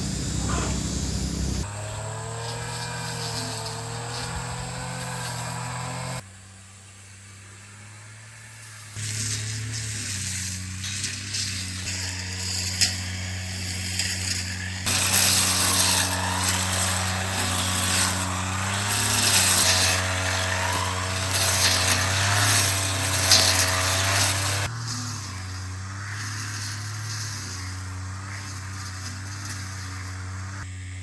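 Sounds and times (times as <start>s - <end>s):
power tool humming and cutting: 1.0s - 31.0s.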